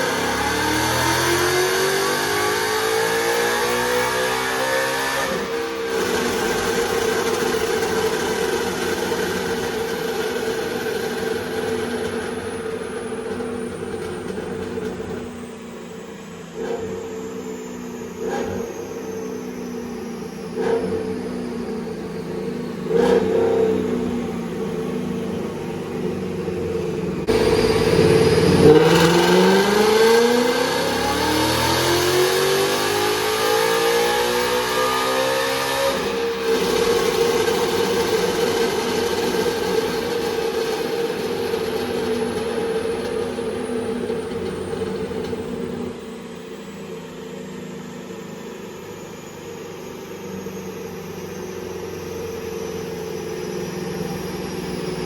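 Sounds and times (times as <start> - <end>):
car engine revving on a dyno: 0.0 - 55.0.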